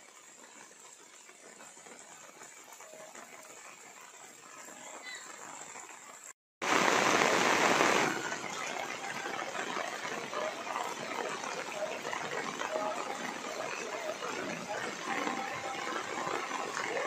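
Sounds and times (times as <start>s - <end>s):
rain falling: 0.0s - 17.0s
water running on pavement: 0.0s - 17.0s.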